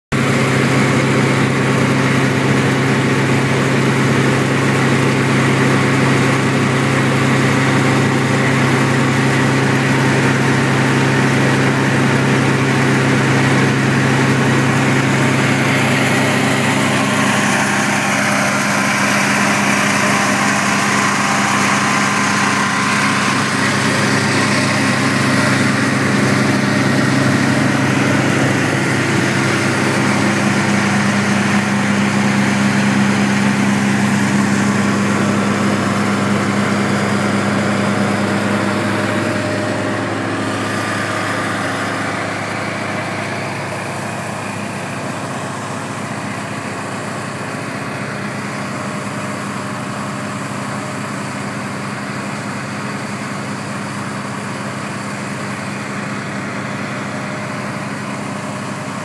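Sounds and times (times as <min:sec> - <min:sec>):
small gas engine running: 0:00.1 - 0:59.0.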